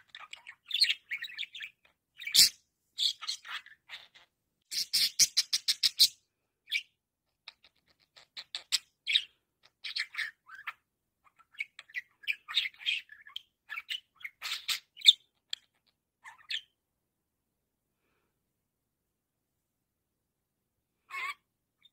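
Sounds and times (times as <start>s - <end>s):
budgerigar chirping and chattering: 0.0s - 16.8s, 21.1s - 21.9s.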